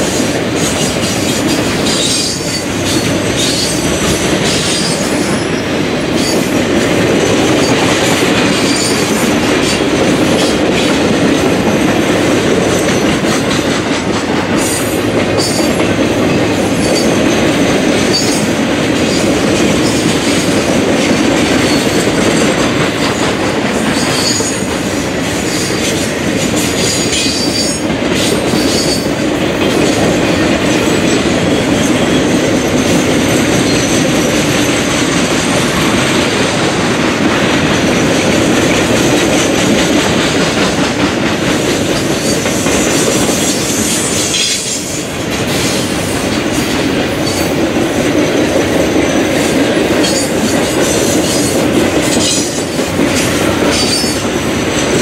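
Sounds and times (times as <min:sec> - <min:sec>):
train wheels rumbling clatter: 0:00.0 - 0:55.0.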